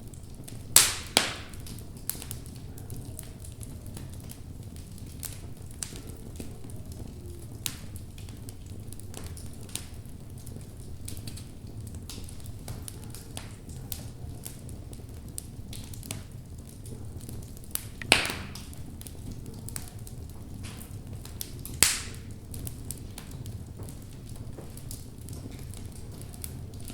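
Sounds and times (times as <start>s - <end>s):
loud fire pops: 0.0s - 16.4s, 17.6s - 26.9s
logs crackling in a fireplace: 0.0s - 26.9s
low fire rumble: 0.0s - 26.9s.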